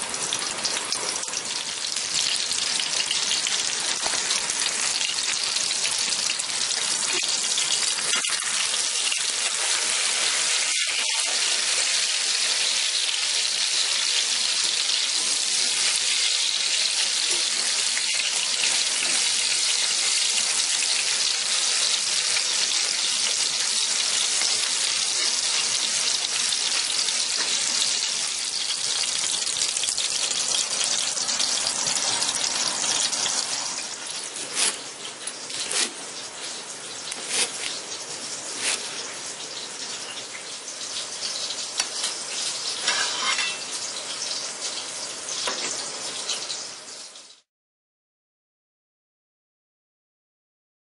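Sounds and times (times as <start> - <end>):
meat sizzling in oil: 0.0 - 47.5.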